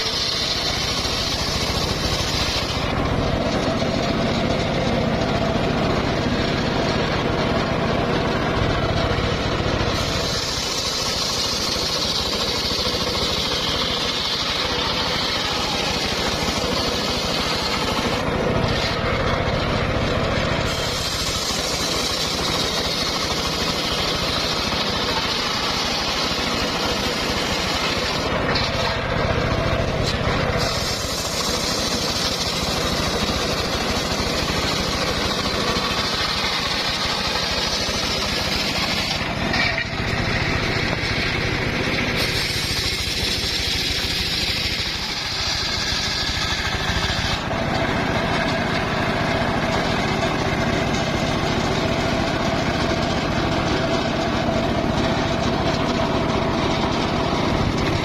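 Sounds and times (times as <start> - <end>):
circular saw cutting timber: 0.0 - 58.0.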